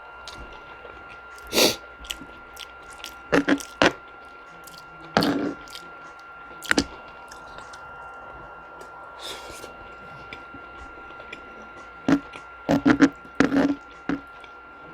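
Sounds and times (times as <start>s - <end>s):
faint high-pitched hum: 0.0s - 14.9s
chewing and mouth noise: 0.2s - 14.9s.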